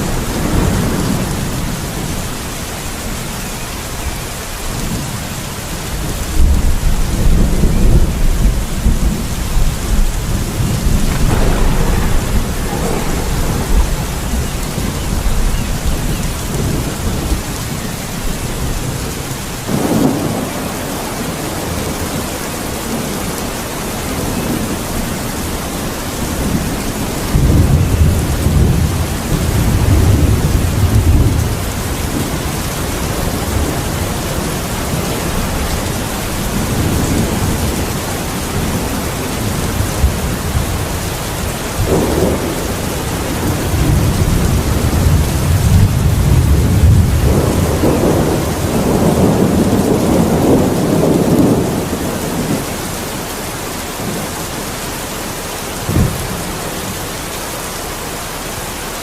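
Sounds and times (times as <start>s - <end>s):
rolling thunder: 0.0s - 3.3s, 4.7s - 54.4s, 55.8s - 57.0s
heavy rain: 0.0s - 59.0s.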